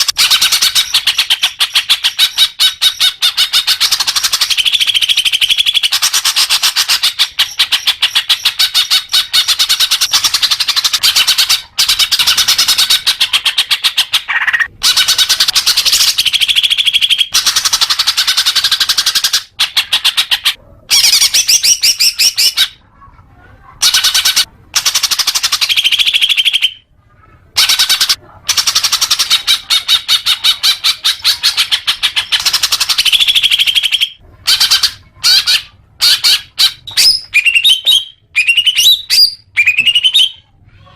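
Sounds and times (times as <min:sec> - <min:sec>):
bird singing chattering song: 0:00.0 - 0:22.8, 0:27.6 - 0:40.5.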